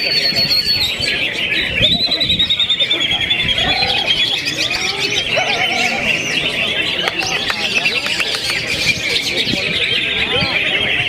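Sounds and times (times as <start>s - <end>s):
birds singing trills: 0.0s - 11.0s.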